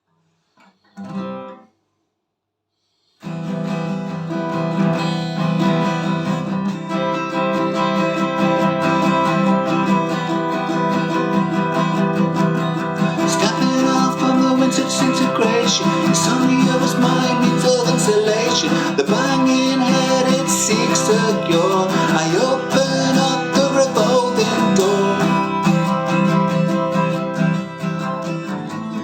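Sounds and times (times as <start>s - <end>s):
acoustic guitar strumming: 0.6s - 1.7s, 3.2s - 29.0s.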